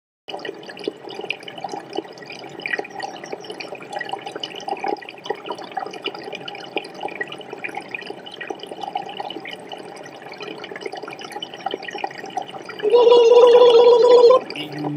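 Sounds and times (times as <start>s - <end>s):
water bubbling and trickling: 0.3s - 14.9s.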